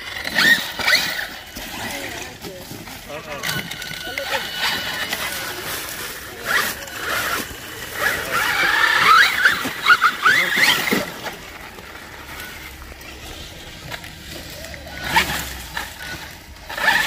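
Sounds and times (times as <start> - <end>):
toy truck motor whining: 0.0 - 17.0.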